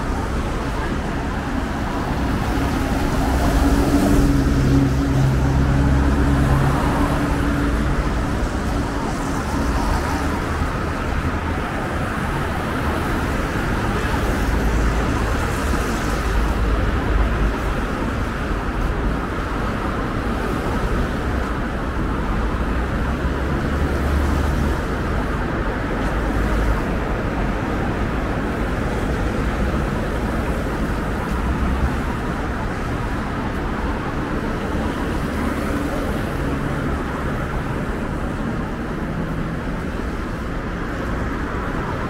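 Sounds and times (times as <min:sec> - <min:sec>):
passing cars: 0:00.0 - 0:42.0.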